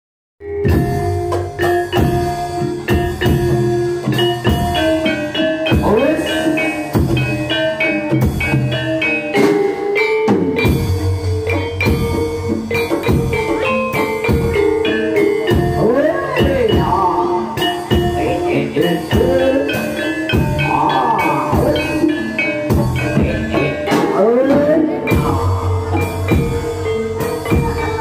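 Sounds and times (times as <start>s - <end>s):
mallet percussion melody: 0.4s - 28.0s
steady drumming: 0.4s - 28.0s.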